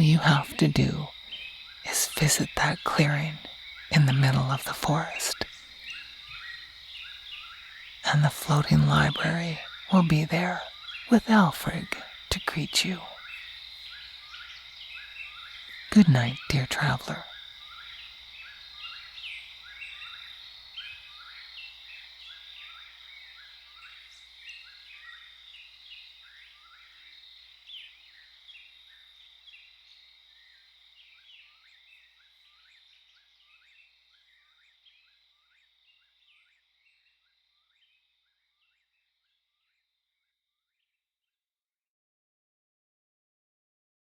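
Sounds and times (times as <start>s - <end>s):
high insect drone: 0.0s - 35.6s.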